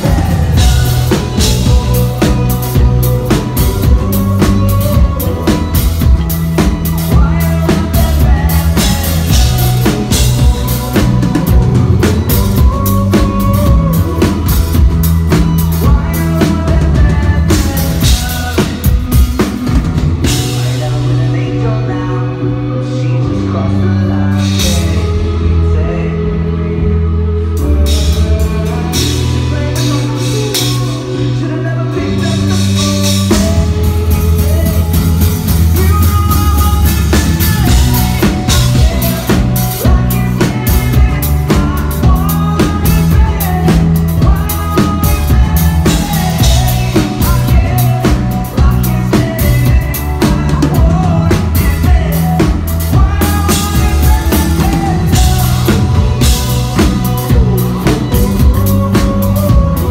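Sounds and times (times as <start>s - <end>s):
drum kit: 0.0s - 59.9s
live band playing: 0.0s - 59.9s
person singing: 0.0s - 59.9s.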